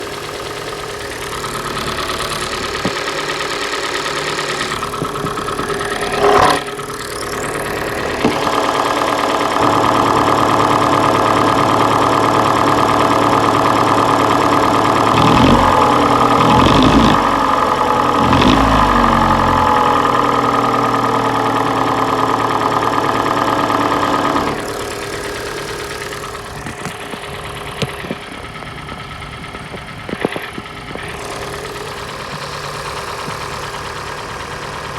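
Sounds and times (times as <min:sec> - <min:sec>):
car engine with piston knock: 0:00.0 - 0:34.9.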